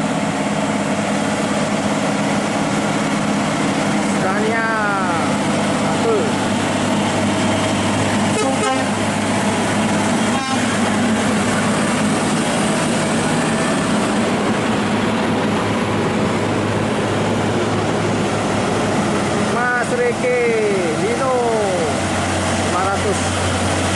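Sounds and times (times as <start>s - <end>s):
diesel truck engine running: 0.0s - 23.9s.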